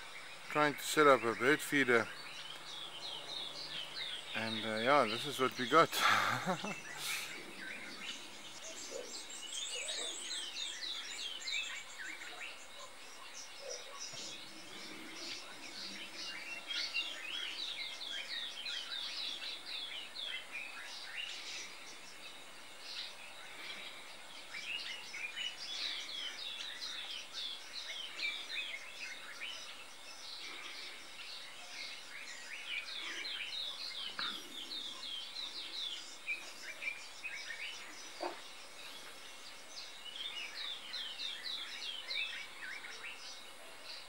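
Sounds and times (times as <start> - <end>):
faint steady hiss: 0.0 - 44.0
small birds chirping: 0.0 - 44.0.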